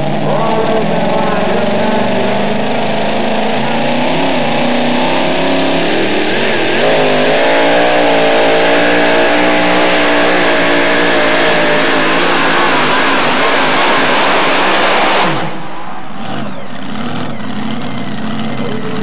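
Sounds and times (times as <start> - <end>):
truck engine revving loudly: 0.0 - 19.0.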